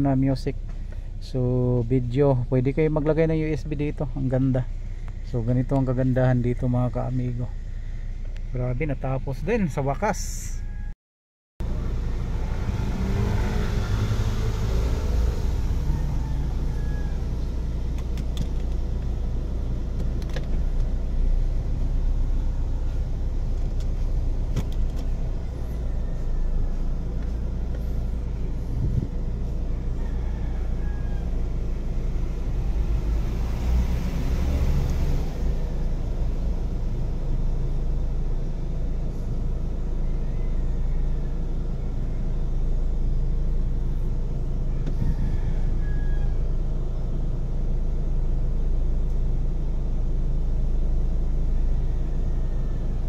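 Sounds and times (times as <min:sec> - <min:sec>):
car idling inside cabin: 0:00.0 - 0:10.9, 0:15.6 - 0:33.0, 0:35.4 - 0:53.0.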